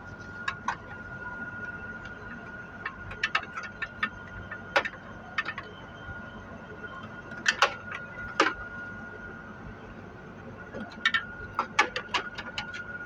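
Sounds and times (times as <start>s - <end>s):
faint high whine: 0.0s - 11.5s.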